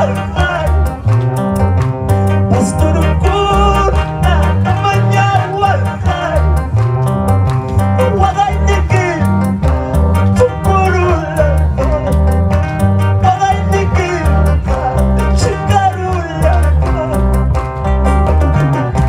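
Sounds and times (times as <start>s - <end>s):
heavy bass line: 0.0s - 19.0s
keyboards: 0.0s - 19.0s.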